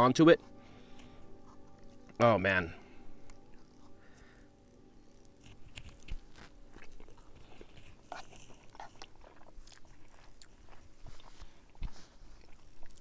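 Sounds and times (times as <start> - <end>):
crunching and chewing bread: 0.7 - 13.0.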